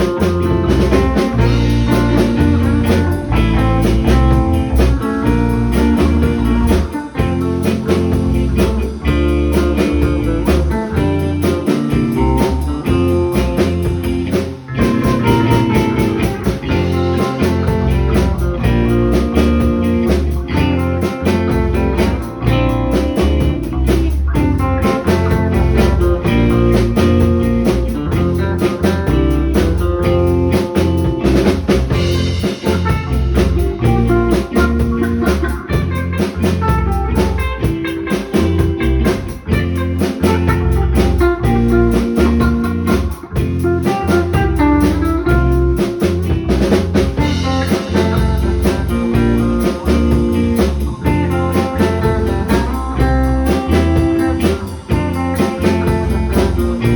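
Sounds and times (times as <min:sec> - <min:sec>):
electric guitar: 0:00.0 - 0:56.9
steady drums: 0:00.0 - 0:56.9.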